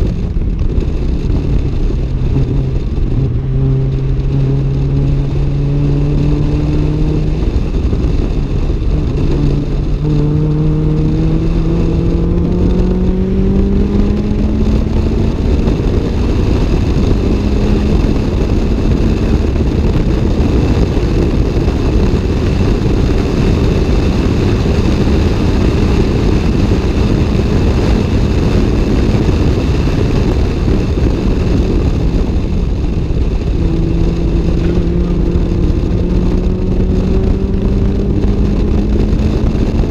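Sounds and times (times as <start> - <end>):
car engine accelerating hard: 0.0 - 39.9
road and wind noise: 0.0 - 39.9.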